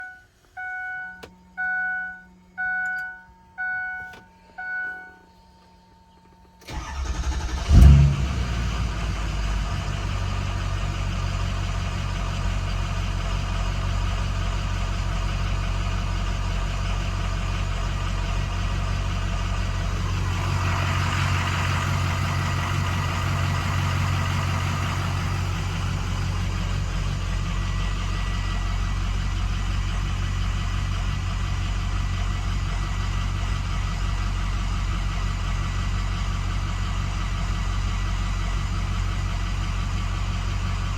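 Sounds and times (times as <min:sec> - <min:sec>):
diesel engine idling: 0:01.3 - 0:40.9
diesel engine cranking and starting: 0:05.4 - 0:40.9.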